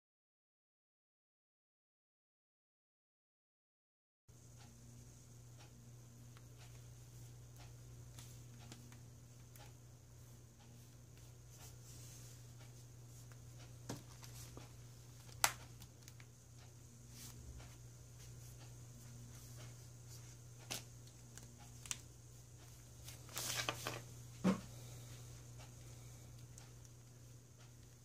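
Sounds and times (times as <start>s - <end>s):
steady low hum: 4.3s - 28.0s.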